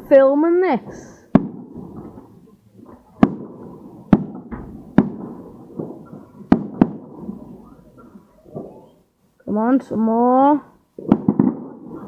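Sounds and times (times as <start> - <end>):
distant fireworks boom: 0.0 - 10.1, 10.8 - 12.0
fireworks bangs with echo: 0.0 - 10.1, 11.0 - 12.0.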